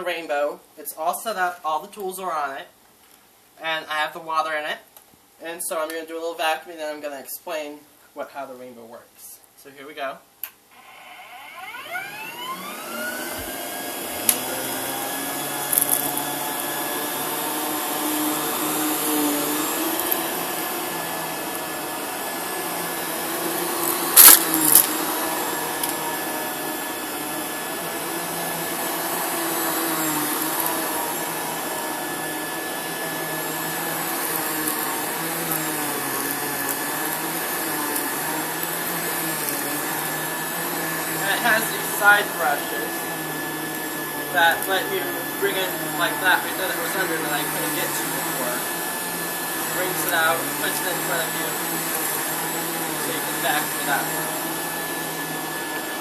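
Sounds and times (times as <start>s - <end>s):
vacuum cleaner motor whine: 10.8s - 56.0s.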